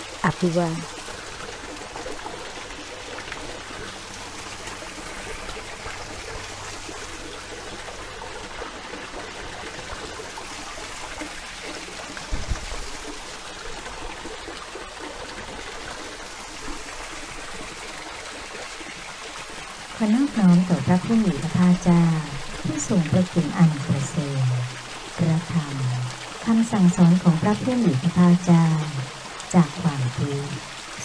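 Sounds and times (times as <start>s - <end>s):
running water rushing: 0.0s - 31.0s.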